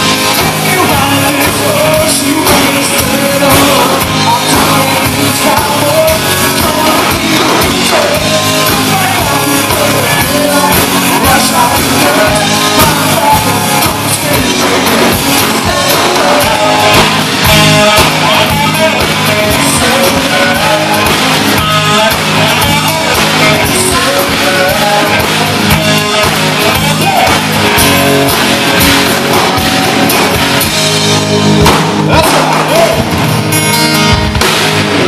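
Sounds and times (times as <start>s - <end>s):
acoustic guitar: 0.0s - 35.0s
bass guitar: 0.0s - 35.0s
drums: 0.0s - 35.0s
electric guitar: 0.0s - 35.0s.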